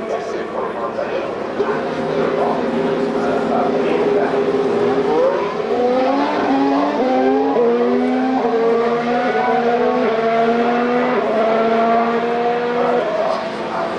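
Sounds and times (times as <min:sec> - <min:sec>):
racing car engines accelerating: 0:00.0 - 0:13.9.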